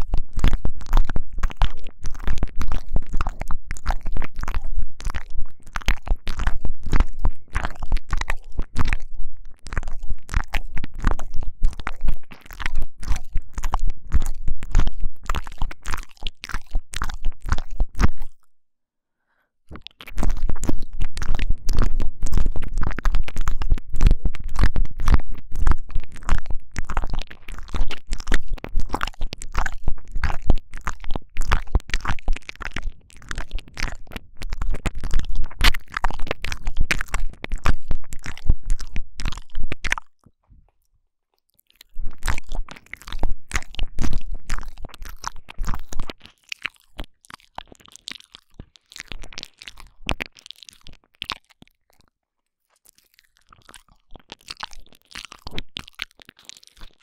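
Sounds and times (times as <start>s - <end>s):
wet mouth clicks and licks: 0.0s - 18.5s, 19.7s - 57.0s.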